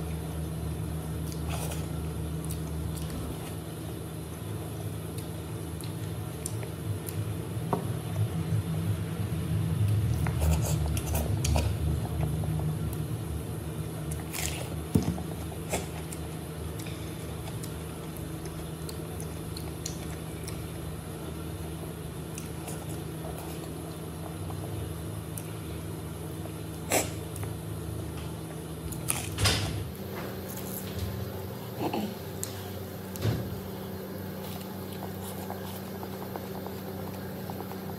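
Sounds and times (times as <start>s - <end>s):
steady low hum: 0.0s - 37.9s
man chewing food: 1.1s - 4.0s, 4.7s - 7.4s, 9.8s - 29.4s, 30.0s - 37.9s.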